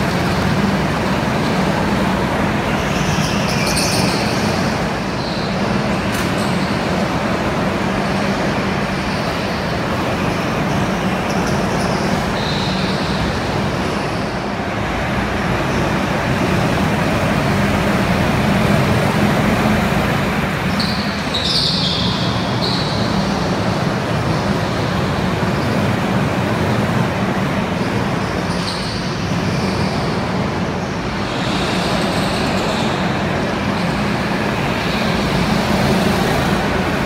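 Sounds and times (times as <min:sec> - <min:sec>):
go-kart engines droning: 0:00.0 - 0:37.0
high whine of passing karts: 0:00.0 - 0:37.0.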